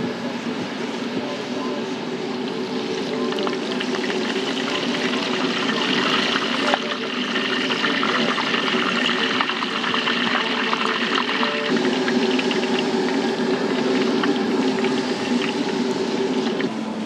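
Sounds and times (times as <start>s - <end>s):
steady low hum: 0.0s - 17.0s
food deep-frying in oil: 2.2s - 16.7s.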